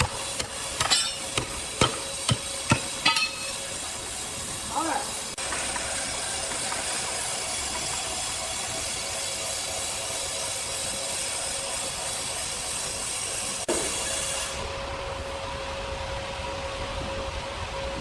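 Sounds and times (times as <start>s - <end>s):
sawmill machinery whirring: 0.0s - 18.0s.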